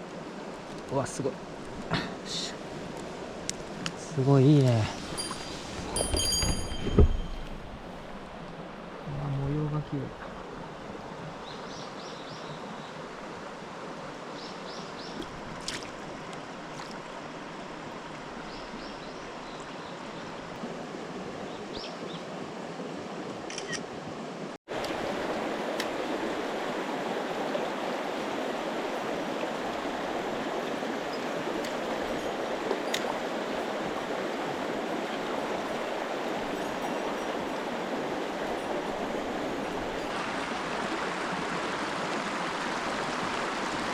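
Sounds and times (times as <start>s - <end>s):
mountain stream rushing: 0.0s - 43.9s.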